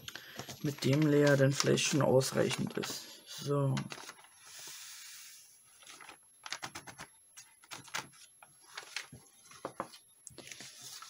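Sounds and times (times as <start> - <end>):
stiff paper crackling: 0.2 - 3.0, 3.6 - 4.5, 5.7 - 11.0.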